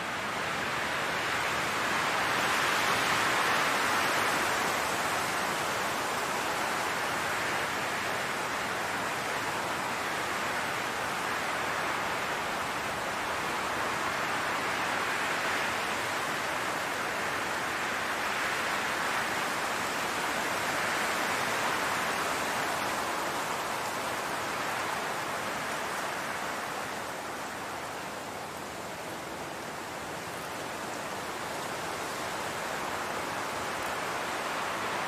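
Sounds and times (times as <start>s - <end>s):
wind blowing through tall grass: 0.0s - 35.0s.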